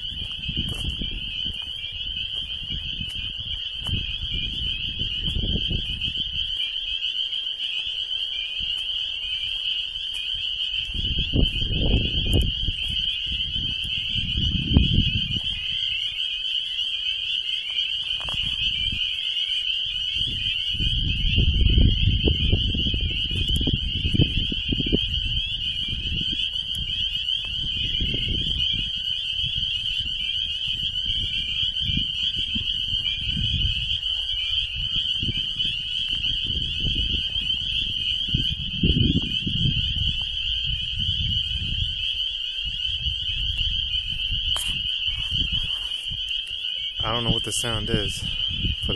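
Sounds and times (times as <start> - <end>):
chorus of frogs peeping: 0.0 - 48.9
wind buffeting microphone: 0.0 - 48.9.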